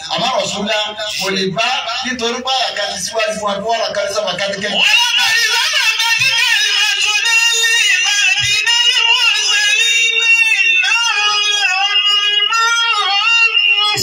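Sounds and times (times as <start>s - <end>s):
high voice singing over sound system: 0.0s - 14.0s.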